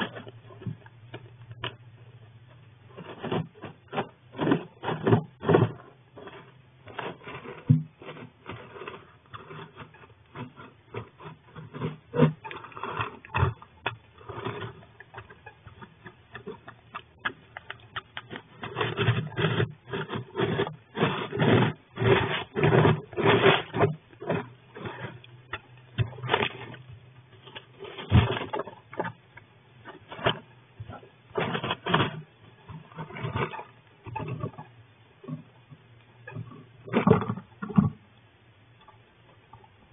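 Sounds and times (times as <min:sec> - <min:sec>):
animal scratching and rustling: 0:00.0 - 0:34.7.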